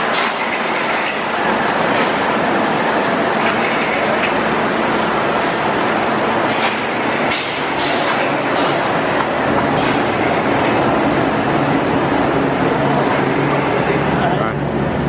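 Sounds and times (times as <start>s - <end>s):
baking oven clatter and hum: 0.0s - 15.0s.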